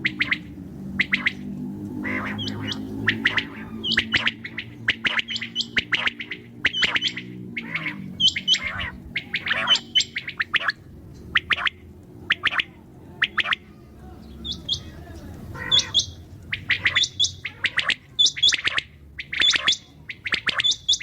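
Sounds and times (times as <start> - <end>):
quail calling: 0.0 - 21.0.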